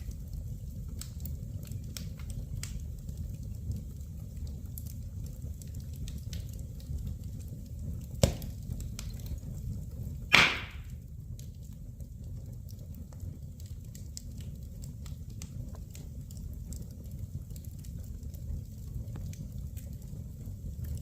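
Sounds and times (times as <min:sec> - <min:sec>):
fire crackling in fireplace: 0:00.0 - 0:21.0
fire popping: 0:00.0 - 0:21.0.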